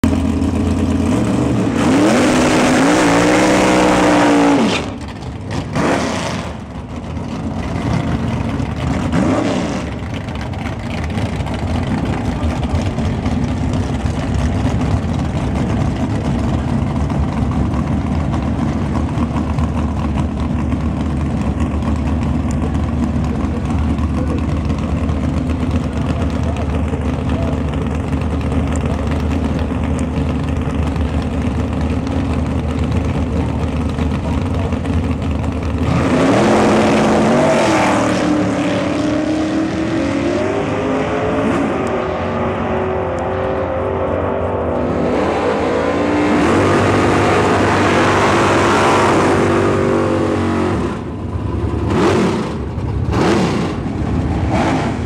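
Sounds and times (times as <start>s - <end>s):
race car engine idling and revving: 0.0s - 55.0s.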